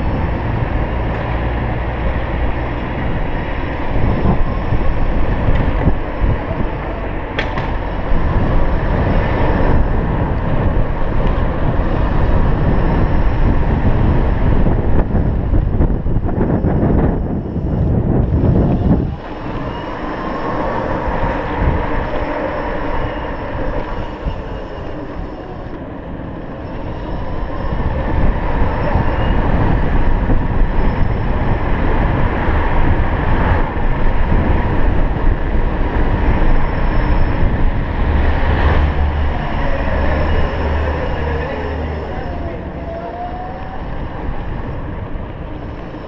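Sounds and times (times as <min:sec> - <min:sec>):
wind rushing over microphone: 0:00.0 - 0:46.0.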